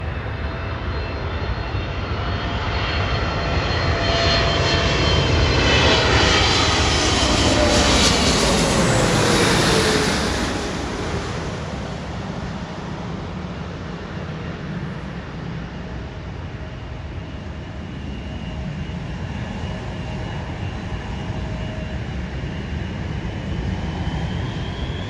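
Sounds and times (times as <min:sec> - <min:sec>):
jet airliner flying past: 0:00.0 - 0:25.0.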